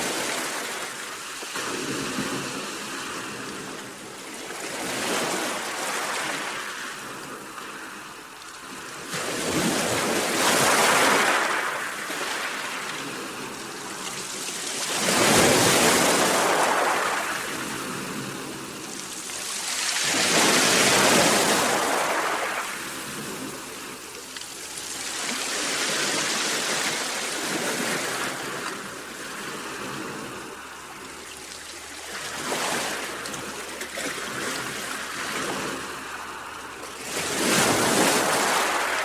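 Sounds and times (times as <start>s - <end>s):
sea waves surging: 0.0s - 39.0s.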